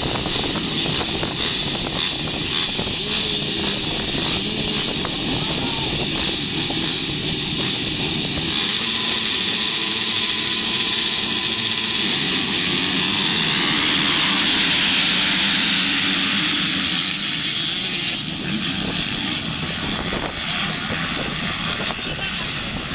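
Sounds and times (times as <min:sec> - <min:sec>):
motocross bikes racing: 0:00.0 - 0:22.9.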